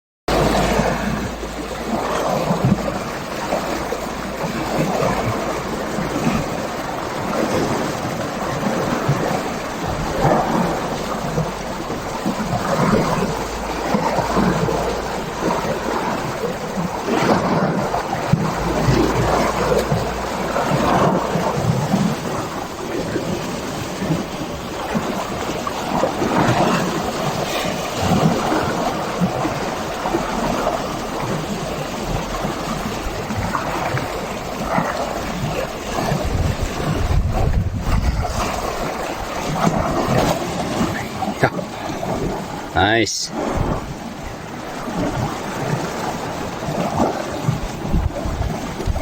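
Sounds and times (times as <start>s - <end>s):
sea water washing and slapping: 0.3s - 49.0s.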